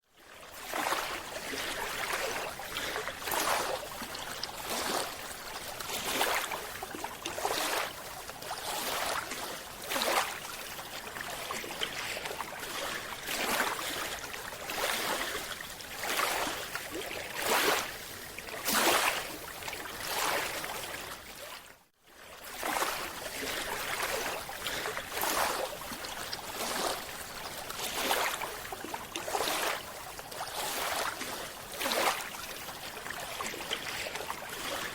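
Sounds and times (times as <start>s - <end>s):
water rushing and splashing: 0.6s - 21.7s, 22.4s - 34.9s.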